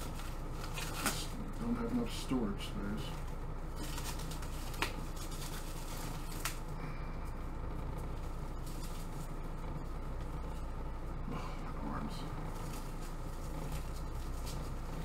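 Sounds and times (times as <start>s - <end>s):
mechanical room hum: 0.0s - 15.0s.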